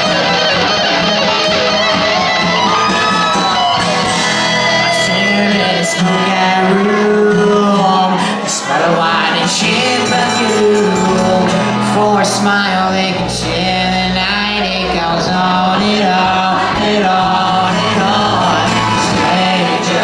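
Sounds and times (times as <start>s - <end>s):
live rock band playing: 0.0s - 20.0s
person singing: 3.4s - 20.0s.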